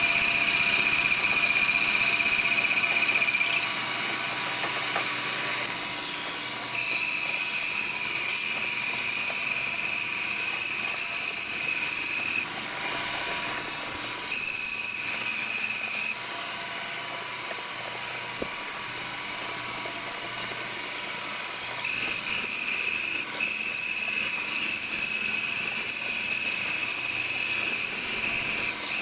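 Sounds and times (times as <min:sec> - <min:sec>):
metal lathe milling whine: 0:00.0 - 0:29.0.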